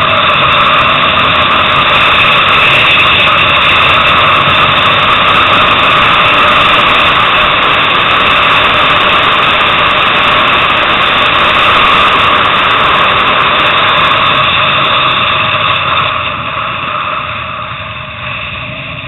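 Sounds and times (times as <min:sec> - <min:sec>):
motorcycle engine at high revs: 0:00.0 - 0:19.0
wind rush: 0:00.0 - 0:19.0.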